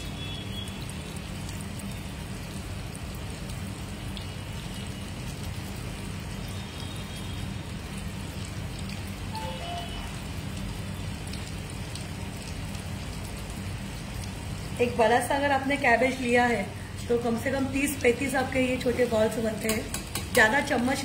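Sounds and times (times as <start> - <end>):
deep-frying sizzle and crackling: 0.0 - 21.0.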